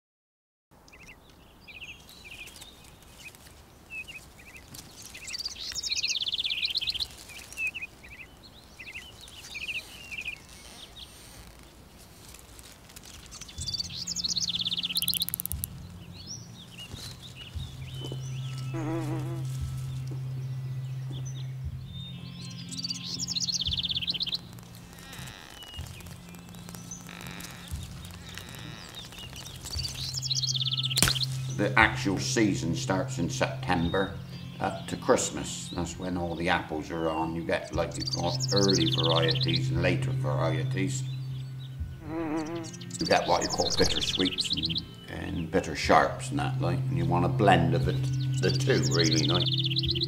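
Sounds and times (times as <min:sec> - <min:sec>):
songbirds trilling: 0:00.8 - 0:50.0.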